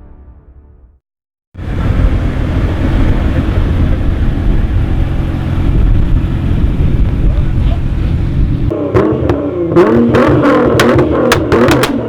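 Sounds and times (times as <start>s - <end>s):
car engine and exhaust running: 1.6s - 12.0s.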